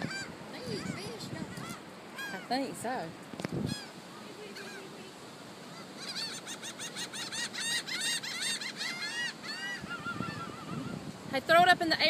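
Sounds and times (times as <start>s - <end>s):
flock of gulls calling: 0.0s - 2.8s, 3.5s - 11.3s.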